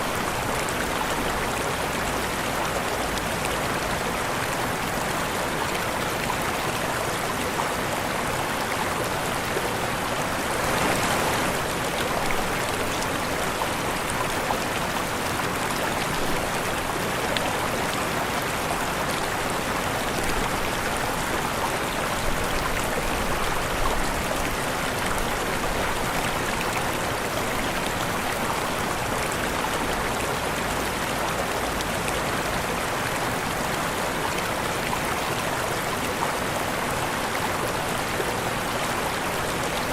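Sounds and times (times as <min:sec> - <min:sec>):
waterfall rushing: 0:07.9 - 0:39.9.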